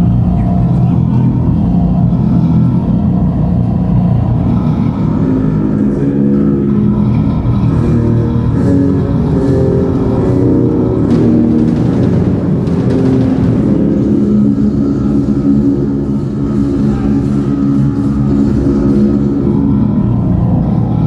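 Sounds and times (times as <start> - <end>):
death metal band playing: 0.0 - 21.0.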